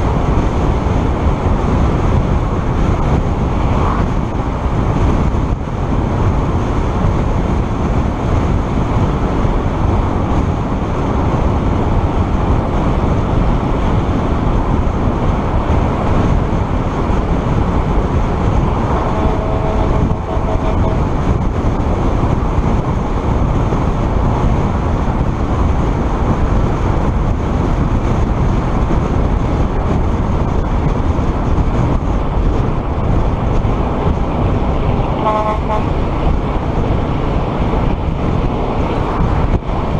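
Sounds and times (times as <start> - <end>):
wind and road noise from driving: 0.0 - 39.9.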